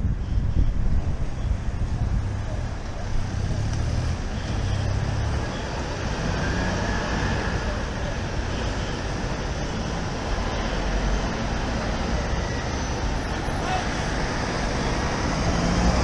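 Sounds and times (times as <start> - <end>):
heavy truck engines rumbling: 0.0 - 16.0
road traffic noise: 0.0 - 16.0.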